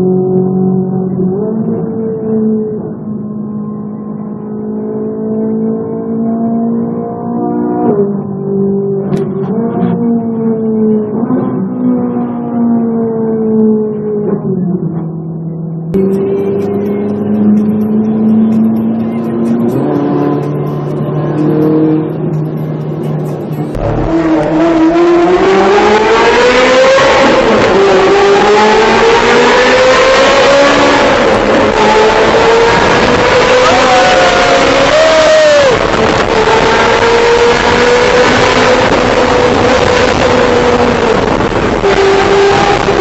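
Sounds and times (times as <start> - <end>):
car engine accelerating in a tunnel: 0.0 - 43.0.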